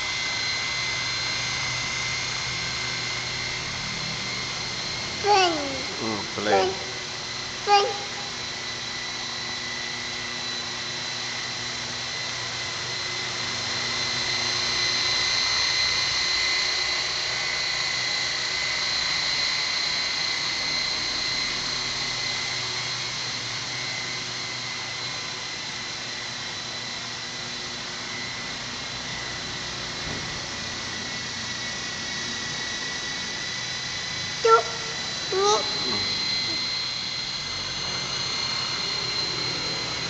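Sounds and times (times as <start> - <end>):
model helicopter high whine: 0.0 - 40.0.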